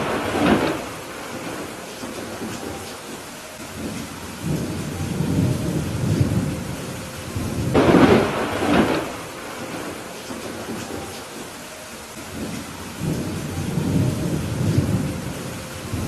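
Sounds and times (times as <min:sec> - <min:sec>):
rolling thunder: 0:00.0 - 0:11.6, 0:12.3 - 0:16.0
steady rain: 0:00.0 - 0:16.0.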